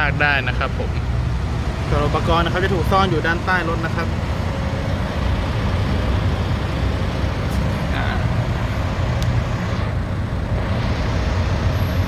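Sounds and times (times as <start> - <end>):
road noise hiss: 0.0 - 12.0.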